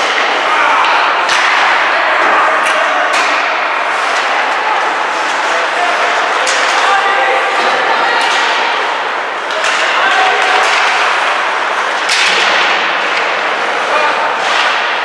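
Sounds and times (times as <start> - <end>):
crowd voices in rink: 0.0 - 15.0.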